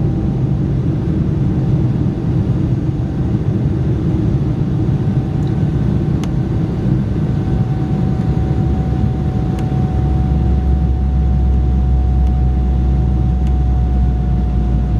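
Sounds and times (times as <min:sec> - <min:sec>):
jet engines rumbling and whining: 0:00.0 - 0:14.9.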